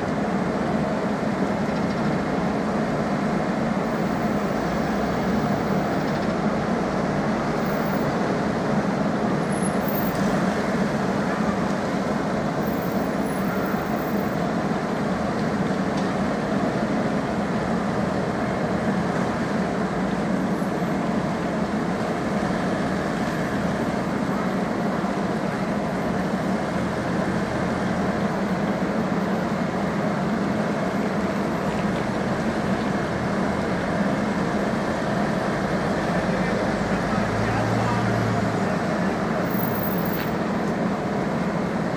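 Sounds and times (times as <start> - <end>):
heavy diesel paving machinery: 0.0 - 41.9.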